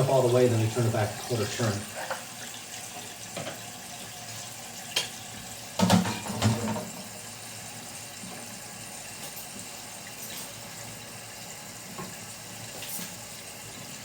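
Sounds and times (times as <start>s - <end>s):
water hissing into toilet tank: 0.0s - 14.0s.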